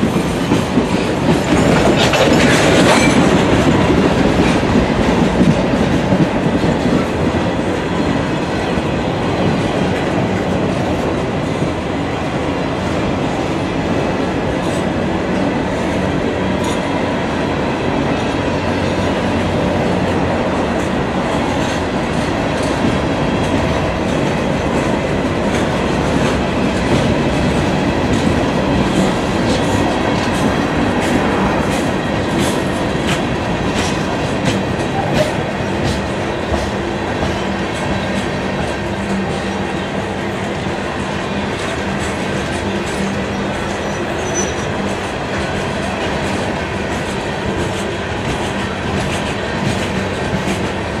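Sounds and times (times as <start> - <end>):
train wheels clacking on rails: 0.0 - 51.0.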